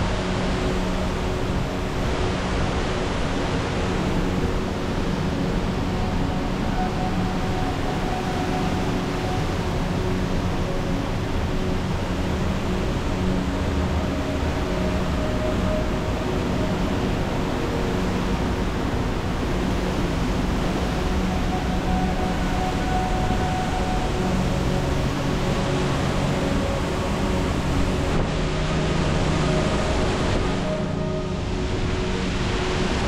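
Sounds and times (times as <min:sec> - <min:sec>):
waterfall roaring: 0:00.1 - 0:33.0.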